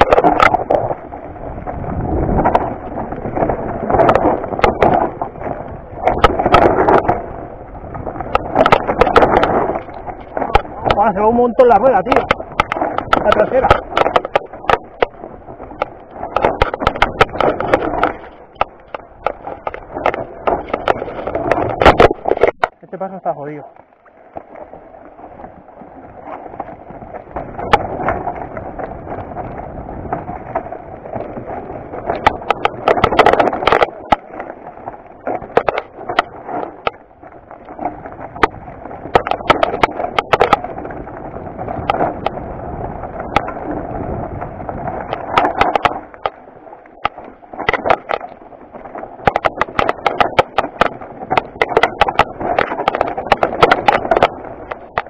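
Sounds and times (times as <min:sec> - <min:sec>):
bike knocking and rattling: 0:00.0 - 0:23.6, 0:24.2 - 0:55.0
bike tyres crunching over stones: 0:00.0 - 0:55.0.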